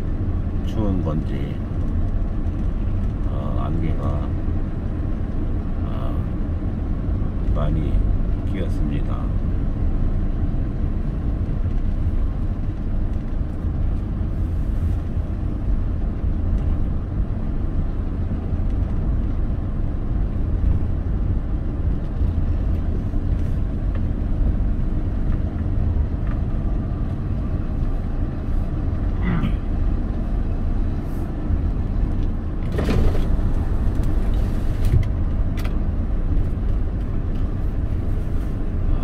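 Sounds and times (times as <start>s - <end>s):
vehicle driving on road: 0.0s - 39.0s.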